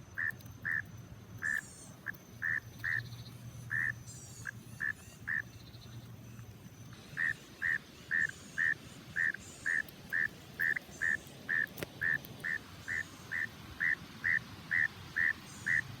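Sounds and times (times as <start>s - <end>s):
frog calling: 0.1s - 6.4s, 7.0s - 16.0s.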